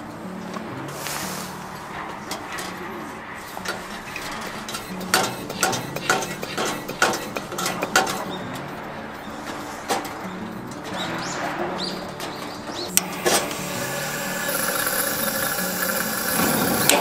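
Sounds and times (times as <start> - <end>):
dishes and utensils clattering: 1.6 - 17.0.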